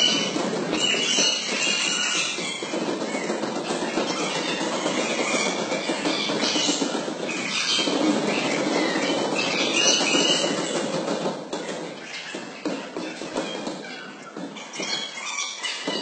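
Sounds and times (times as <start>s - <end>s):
basketballs bouncing on wooden floor: 0.0s - 15.0s.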